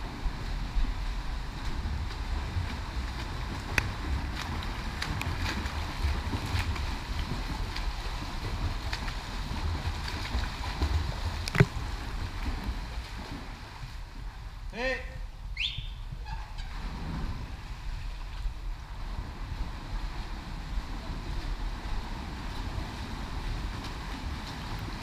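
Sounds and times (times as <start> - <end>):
water splashing from swimming strokes: 0.0 - 14.7, 16.5 - 25.0
wind rumble on microphone: 0.0 - 25.0.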